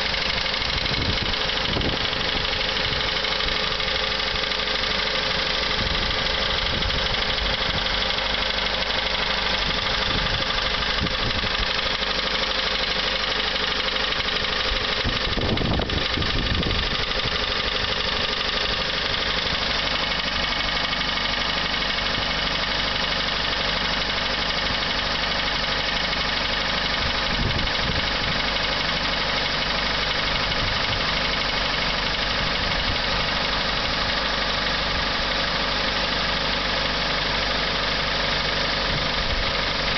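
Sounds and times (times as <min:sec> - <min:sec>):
car engine running with ticking: 0:00.0 - 0:39.9.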